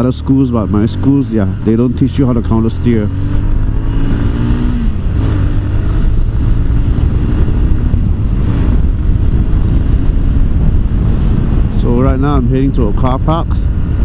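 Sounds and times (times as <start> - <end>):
motorcycle engine running: 0.0 - 14.0
wind rumble on microphone: 0.0 - 14.0.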